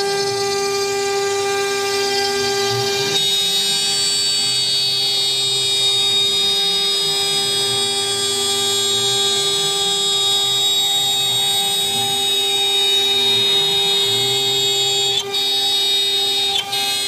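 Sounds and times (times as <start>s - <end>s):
router bit cutting wood: 0.0s - 17.0s
spindle high whine: 0.0s - 17.0s.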